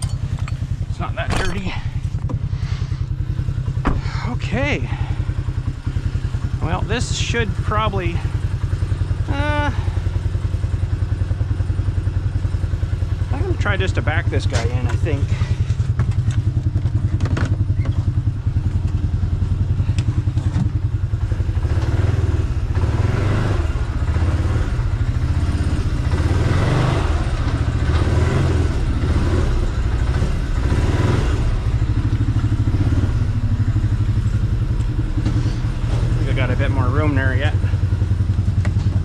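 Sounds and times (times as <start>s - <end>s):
pickup truck engine running: 0.0s - 39.0s.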